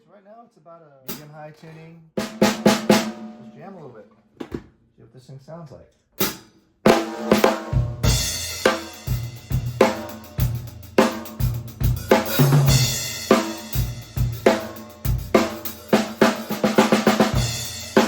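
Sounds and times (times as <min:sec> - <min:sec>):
drum kit groove: 0:01.1 - 0:04.6, 0:06.2 - 0:18.0.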